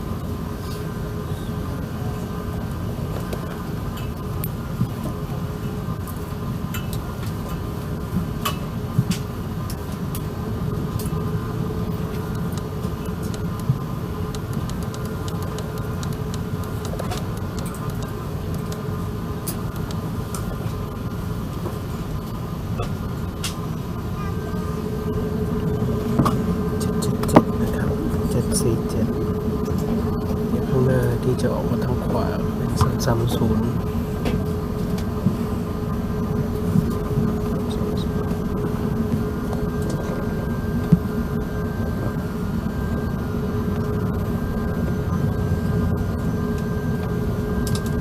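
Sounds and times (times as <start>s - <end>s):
aircraft cabin rumble and hum: 0.0s - 48.0s.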